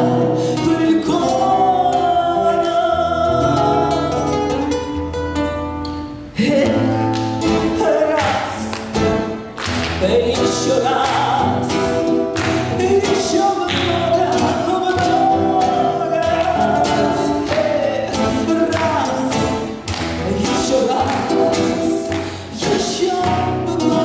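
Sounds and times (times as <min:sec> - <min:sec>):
strummed acoustic guitars: 0:00.0 - 0:24.0.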